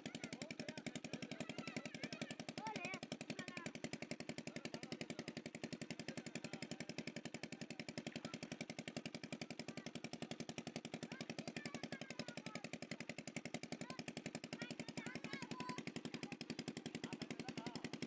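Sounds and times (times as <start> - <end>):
small engine chugging: 0.0 - 18.0.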